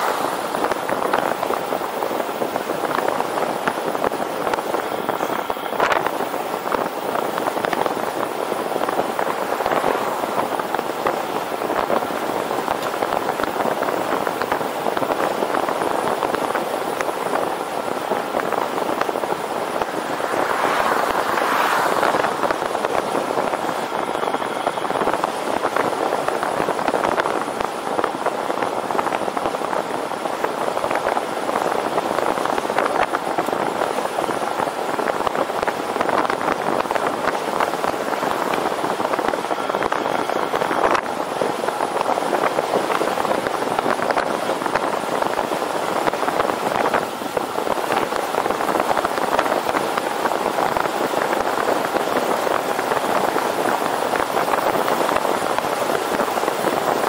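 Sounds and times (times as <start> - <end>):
bicycle road noise: 0.0 - 57.0
rushing wind: 0.0 - 57.0
wind buffeting microphone: 0.0 - 57.0.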